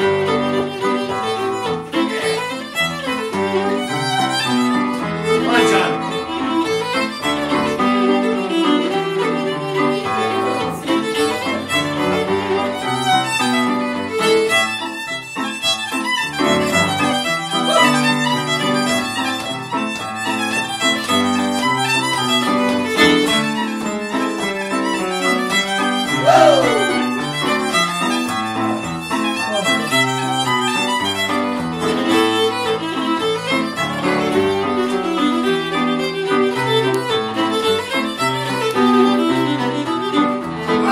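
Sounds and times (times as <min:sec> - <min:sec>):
traditional fiddle tune: 0:00.0 - 0:40.9.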